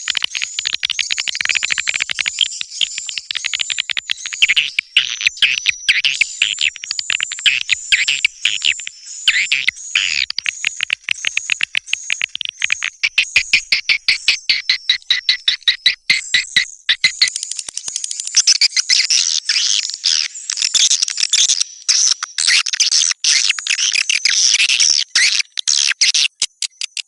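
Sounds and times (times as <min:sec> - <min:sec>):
swiftlets clicking and chirping: 0:00.1 - 0:19.2, 0:23.4 - 0:27.0.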